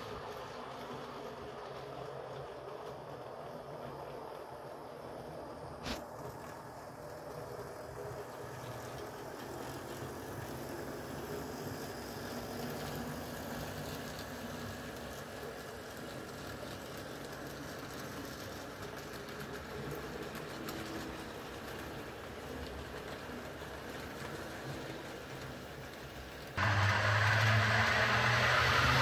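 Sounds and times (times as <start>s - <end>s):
model train rumbling on rails: 0.0s - 29.0s.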